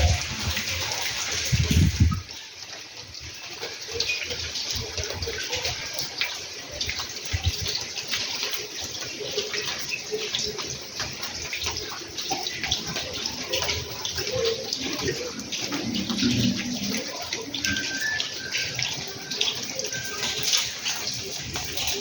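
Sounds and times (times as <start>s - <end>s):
water running and splashing: 0.0s - 22.0s.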